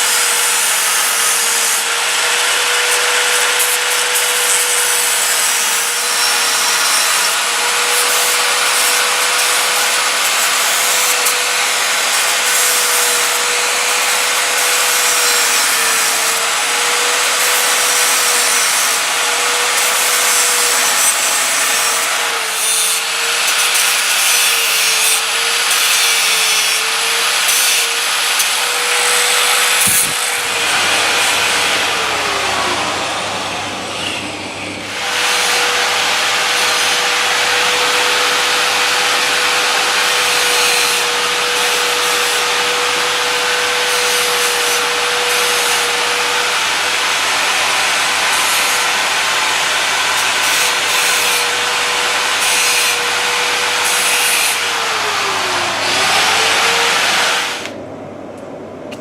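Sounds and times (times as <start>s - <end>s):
grinder cutting steel: 0.0s - 57.8s.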